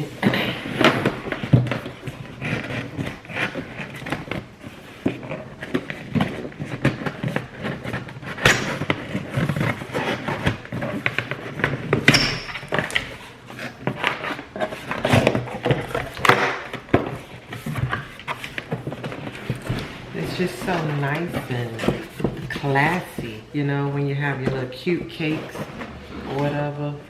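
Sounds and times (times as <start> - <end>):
knocks clicks and scrapes: 0.0 - 27.0
packaging rustling: 0.0 - 27.0.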